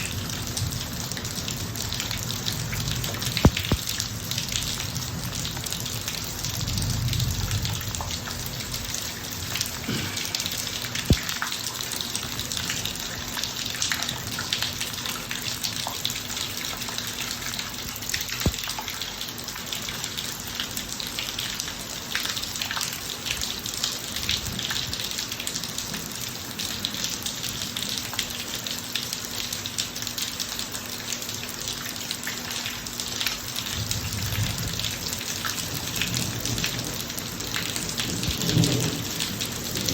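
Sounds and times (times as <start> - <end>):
rain falling on pavement: 0.0 - 39.9.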